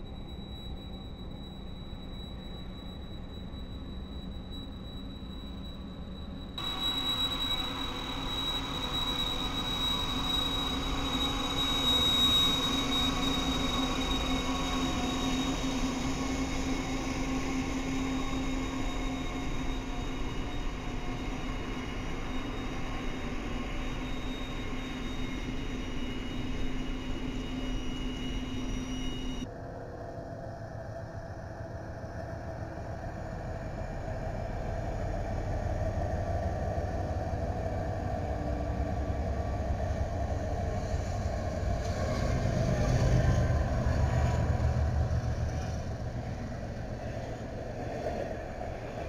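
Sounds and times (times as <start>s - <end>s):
high wheel squeal: 0.0s - 29.5s, 33.8s - 49.0s
freight train passing: 6.6s - 49.0s
low engine drone: 6.6s - 49.0s.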